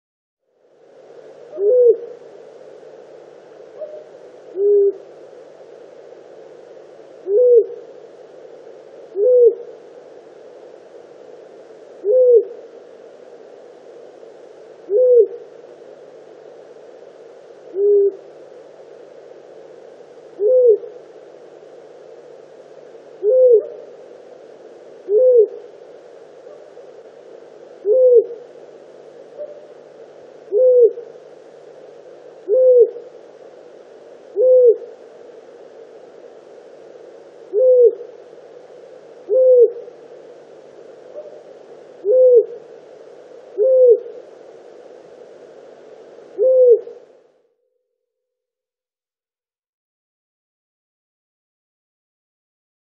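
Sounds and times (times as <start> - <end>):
owl hooting: 0.9 - 47.4.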